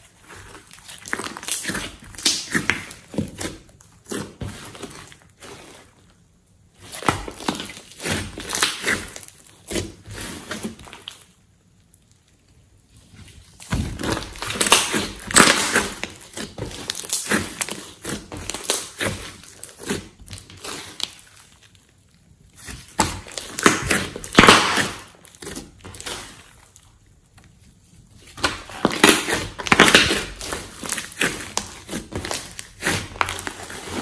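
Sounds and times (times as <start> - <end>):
clay slime squished by hand: 0.0 - 12.1, 12.8 - 34.0.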